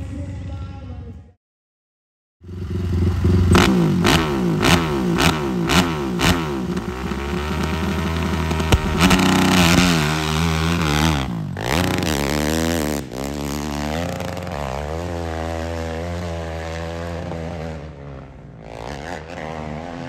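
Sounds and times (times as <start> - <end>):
dirt bike engine revving: 2.4 - 20.0.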